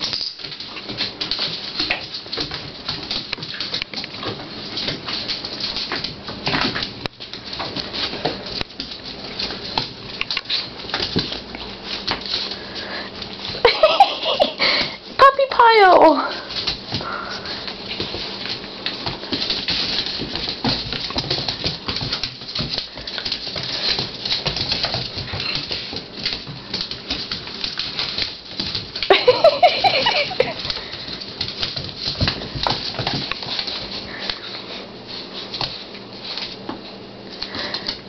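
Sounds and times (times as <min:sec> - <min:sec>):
claws scrabbling on tile: 0:00.0 - 0:15.2, 0:16.2 - 0:38.0.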